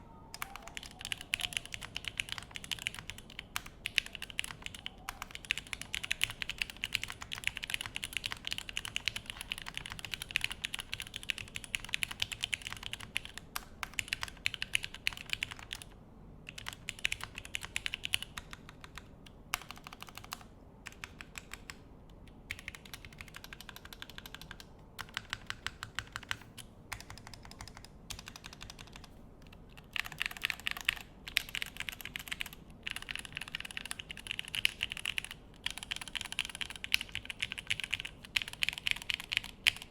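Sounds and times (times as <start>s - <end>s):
mechanical keyboard typing: 0.3s - 39.9s.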